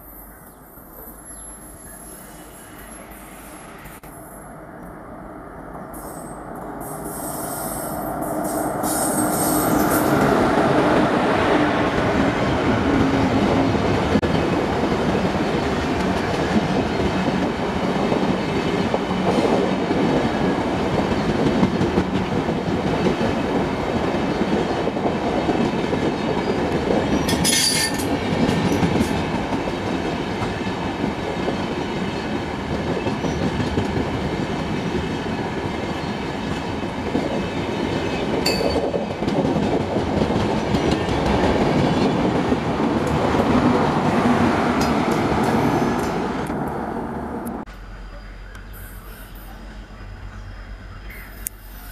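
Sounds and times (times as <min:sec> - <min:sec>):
train wheels on rail: 0:00.0 - 0:51.9.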